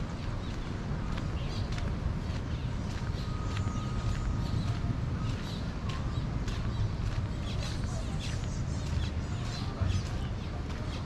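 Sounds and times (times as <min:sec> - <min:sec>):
birds chirping and calling: 0:00.0 - 0:11.0
steady low rumble: 0:00.0 - 0:11.0.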